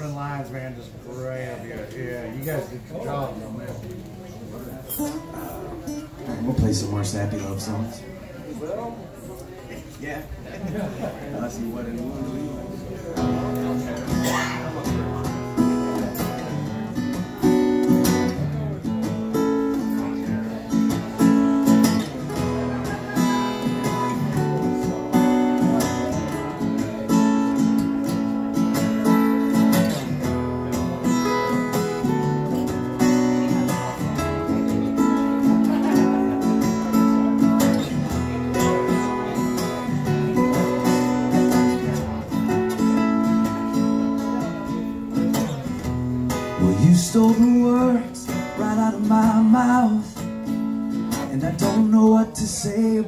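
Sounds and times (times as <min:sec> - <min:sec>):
acoustic guitars strumming: 0:04.7 - 0:08.0, 0:12.0 - 0:53.0.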